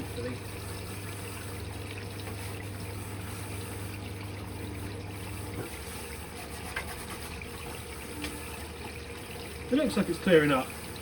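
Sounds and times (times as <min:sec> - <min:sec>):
washing machine running: 0:00.0 - 0:11.0
water running in machine: 0:00.0 - 0:11.0.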